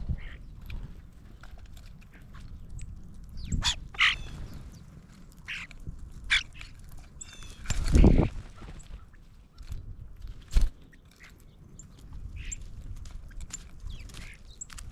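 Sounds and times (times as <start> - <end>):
birds calling: 0.0 - 9.8, 10.7 - 14.9.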